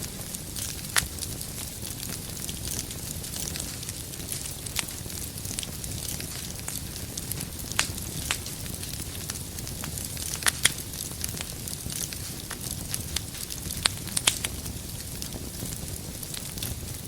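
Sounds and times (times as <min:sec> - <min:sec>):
logs popping: 0:00.0 - 0:16.8
fire crackling: 0:00.0 - 0:17.0
flames rumbling and hissing: 0:00.0 - 0:17.0.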